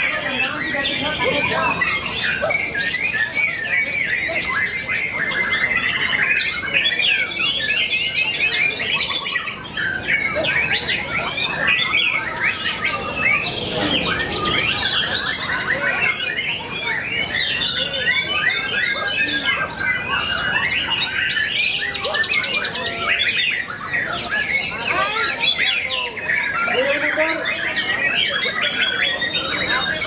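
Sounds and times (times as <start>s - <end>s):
songbirds singing in chorus: 0.0s - 30.0s.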